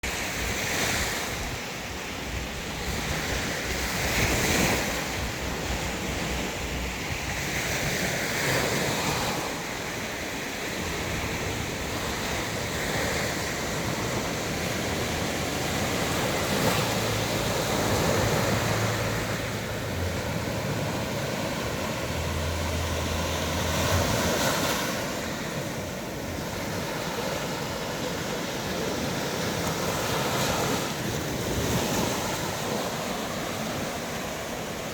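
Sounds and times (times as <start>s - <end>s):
sea waves breaking: 0.0s - 34.9s
wind on microphone: 0.0s - 34.9s.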